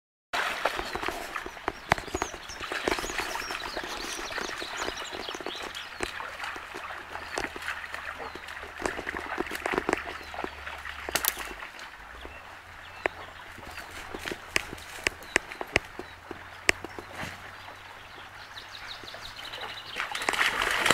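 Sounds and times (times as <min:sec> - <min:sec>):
dog splashing through water: 0:00.4 - 0:20.9
stream babbling: 0:00.4 - 0:20.9
small birds chirping: 0:00.6 - 0:20.9.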